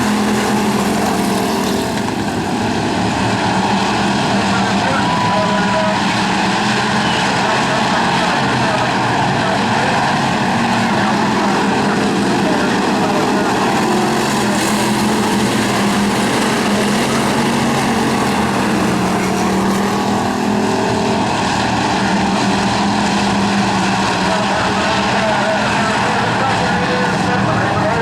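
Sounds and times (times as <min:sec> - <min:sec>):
race car engines droning: 0:00.0 - 0:28.0.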